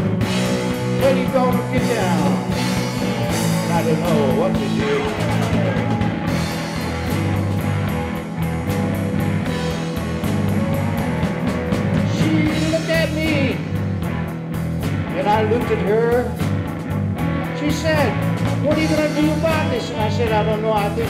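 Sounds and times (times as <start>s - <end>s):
blues-rock band playing: 0.0s - 21.0s
lead guitar bending notes: 0.0s - 21.0s.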